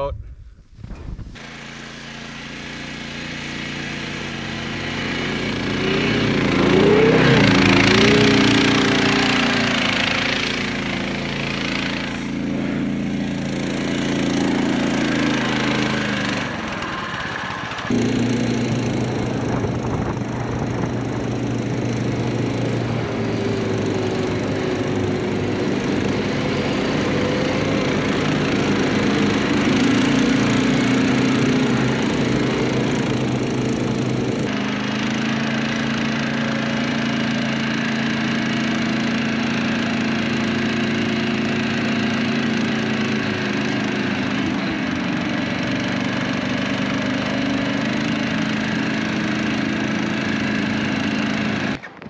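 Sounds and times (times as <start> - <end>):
snow machine engine droning: 1.3 - 52.0.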